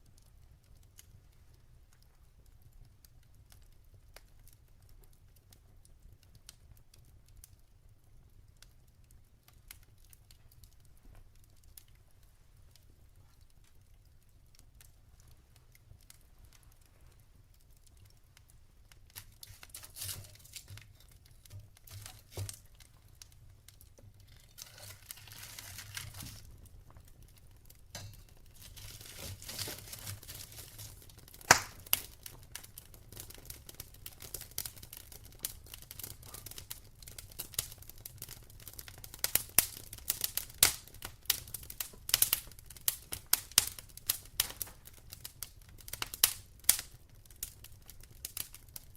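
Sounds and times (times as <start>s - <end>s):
logs crackling and popping: 0.0s - 48.9s.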